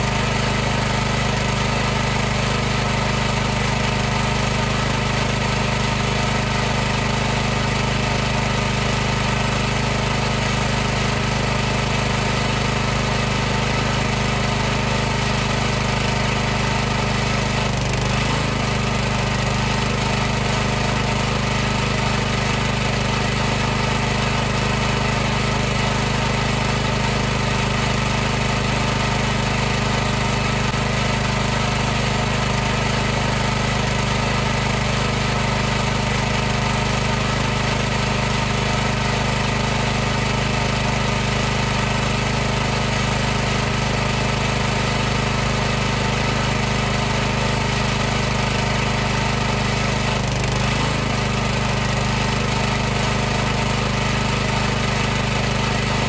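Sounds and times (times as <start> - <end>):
pressure washer droning: 0.0 - 56.0.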